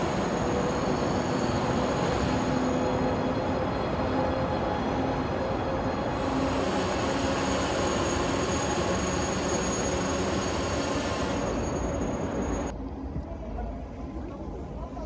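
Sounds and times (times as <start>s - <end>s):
wheels hissing on rail: 0.0s - 12.7s.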